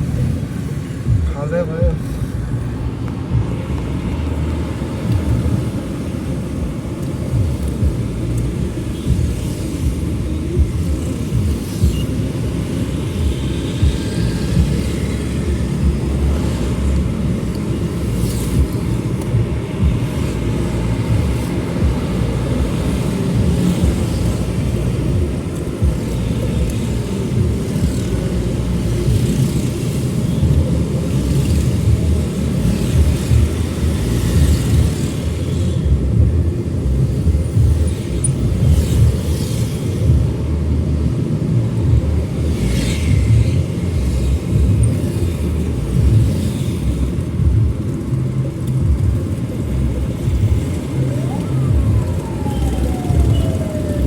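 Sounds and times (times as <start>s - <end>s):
low vehicle rumble: 0.0s - 54.0s.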